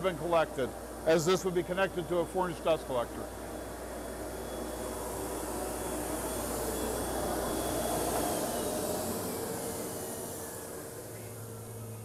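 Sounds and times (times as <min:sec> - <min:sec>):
whooshing machinery: 0:00.0 - 0:12.0.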